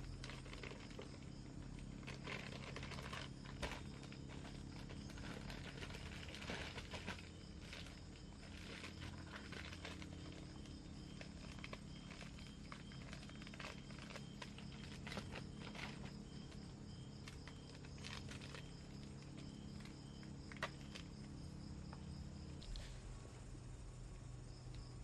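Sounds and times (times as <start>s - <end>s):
small clicks and crackles: 0.0s - 22.0s
faint insect calls: 0.0s - 25.0s
low steady hum: 0.0s - 25.0s.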